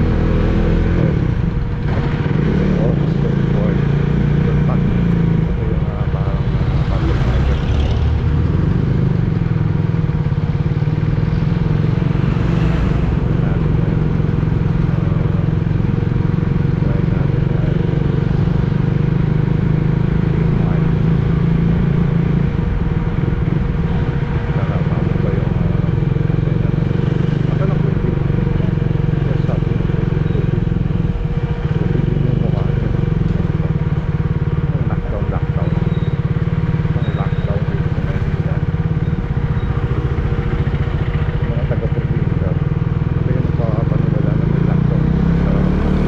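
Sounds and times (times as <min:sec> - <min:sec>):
motorcycle engine running: 0:00.0 - 0:46.0
road noise: 0:00.0 - 0:46.0.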